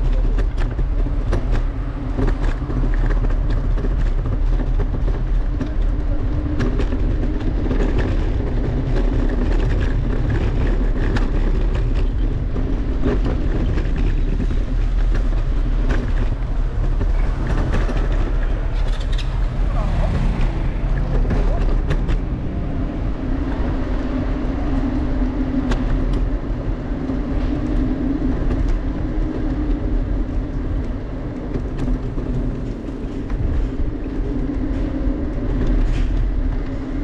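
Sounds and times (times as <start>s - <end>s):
low rumble of riding on streets: 0.0s - 37.0s.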